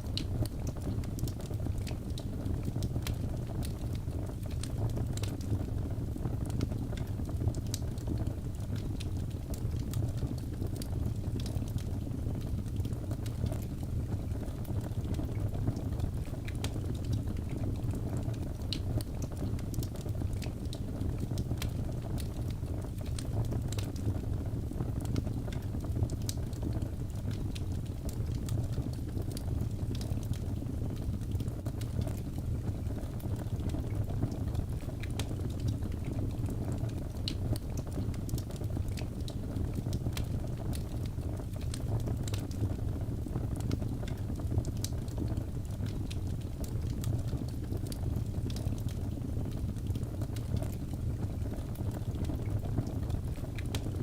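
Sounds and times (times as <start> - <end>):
fire crackles and pops: 0.0 - 54.0
low rumble of flames: 0.0 - 54.0.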